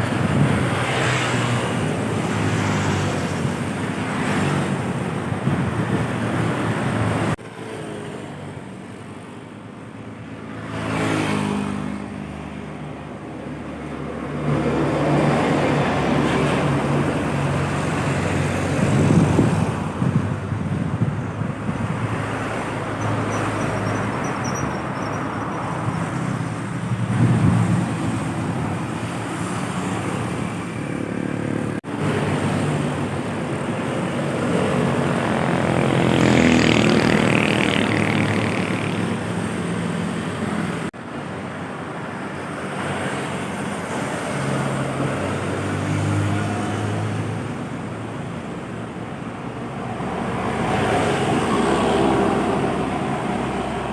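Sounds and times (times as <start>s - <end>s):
heavy trucks and buses passing: 0.0s - 53.9s.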